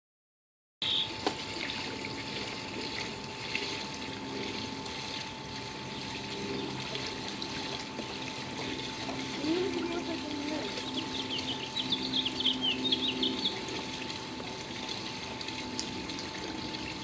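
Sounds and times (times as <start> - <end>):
water trickling and splashing: 0.8 - 17.0.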